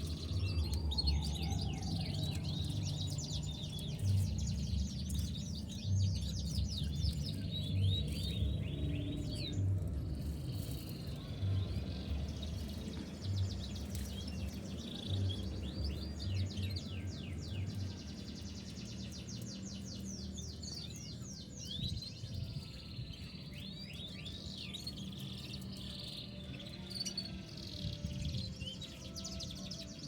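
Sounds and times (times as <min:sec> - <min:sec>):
canary singing in trills: 0:00.0 - 0:30.0
low background hum: 0:00.0 - 0:30.0.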